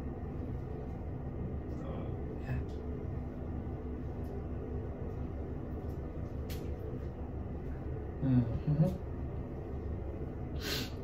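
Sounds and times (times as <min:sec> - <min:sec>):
faint hum: 0:00.0 - 0:11.0
low background rumble: 0:00.0 - 0:11.0.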